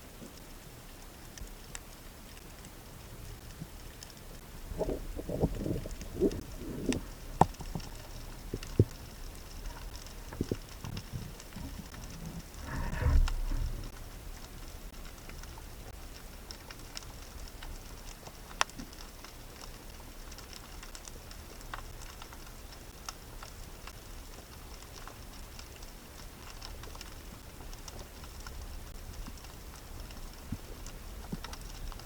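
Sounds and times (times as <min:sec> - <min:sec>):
low steady underwater rumble: 0:00.0 - 0:32.0
underwater clicks and crackles: 0:00.0 - 0:32.0.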